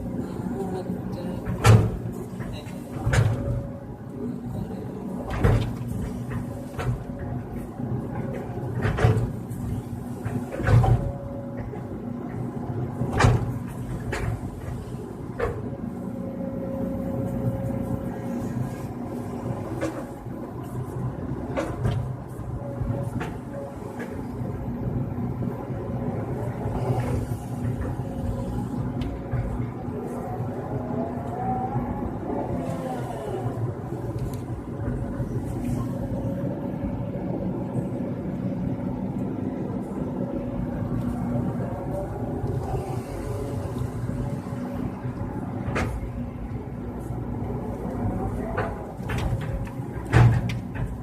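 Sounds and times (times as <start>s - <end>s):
excavator engine running: 0.0s - 51.0s.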